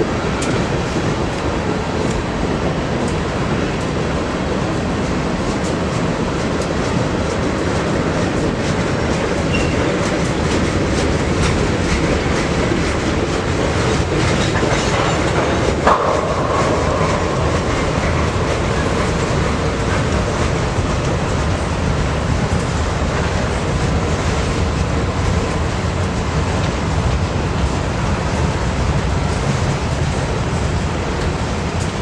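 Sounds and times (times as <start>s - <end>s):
freight train wheels clicking: 0.0s - 32.0s.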